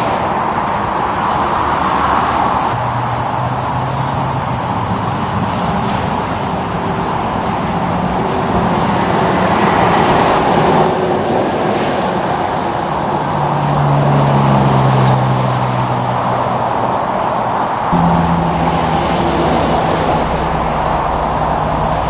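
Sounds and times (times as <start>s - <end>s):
heavy vehicle engine drone: 0.0s - 22.0s
tyre and road noise: 0.0s - 22.0s.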